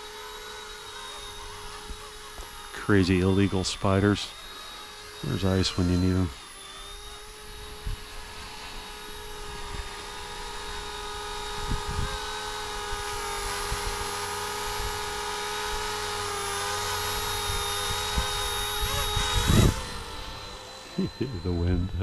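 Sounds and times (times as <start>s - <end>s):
rc helicopter rotors whining: 0.0s - 22.0s.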